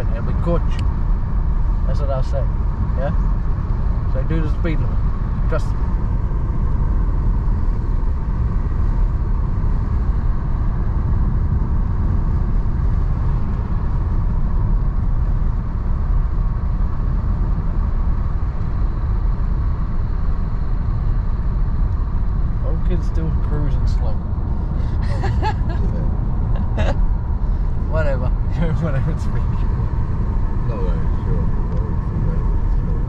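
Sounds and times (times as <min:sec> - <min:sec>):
car cabin road and engine rumble: 0:00.0 - 0:33.0.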